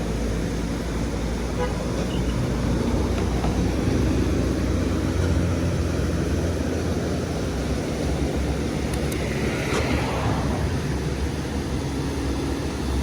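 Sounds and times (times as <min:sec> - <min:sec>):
heavy vehicle engine rumbling: 0:00.0 - 0:13.0.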